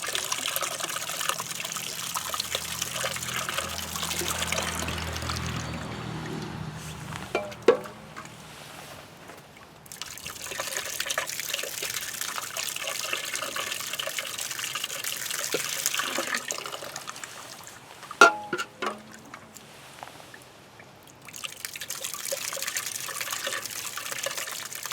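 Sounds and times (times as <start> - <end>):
water pouring into drain: 0.0 - 8.5, 9.8 - 19.7, 21.0 - 24.9.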